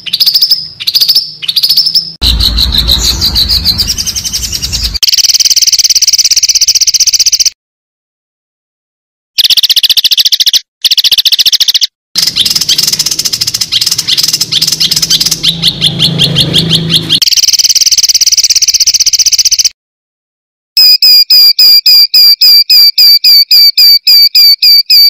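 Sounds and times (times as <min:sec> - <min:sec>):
recorded songbird trills: 0:00.0 - 0:07.6, 0:09.4 - 0:19.8, 0:20.8 - 0:25.0.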